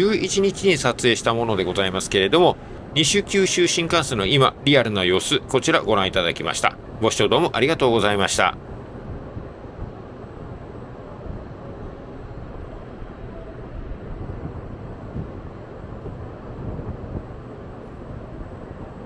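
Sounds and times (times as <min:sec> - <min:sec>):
low rumbling background noise: 0:00.0 - 0:19.0
wind buffeting microphone: 0:00.0 - 0:19.0.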